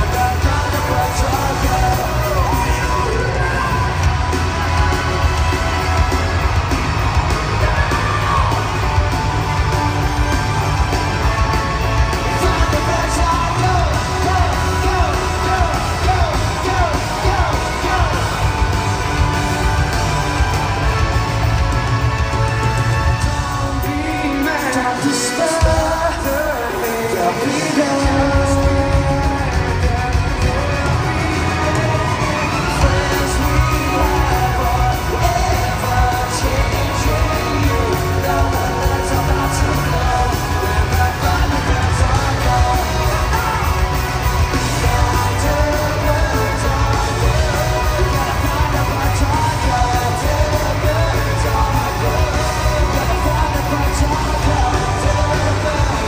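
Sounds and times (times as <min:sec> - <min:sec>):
live pop-punk band playing: 0:00.0 - 0:56.0
person singing and yelling: 0:00.0 - 0:56.0.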